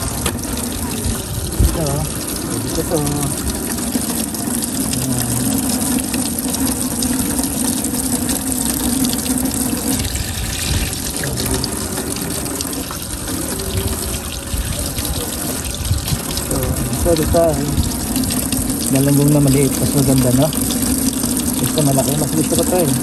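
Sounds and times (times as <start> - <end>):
tap water splashing into metal sink: 0.0 - 23.0.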